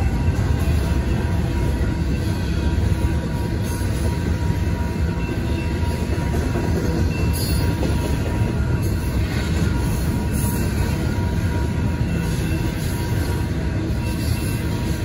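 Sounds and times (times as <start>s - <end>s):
train clatter: 0.0s - 15.0s
train wheels rumbling on rail: 0.0s - 15.0s.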